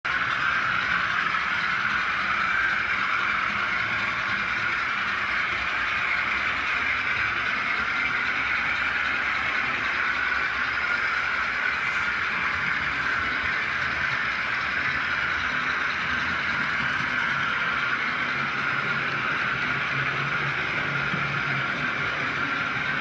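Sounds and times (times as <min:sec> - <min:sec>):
model train motor whirring: 0:00.1 - 0:23.0.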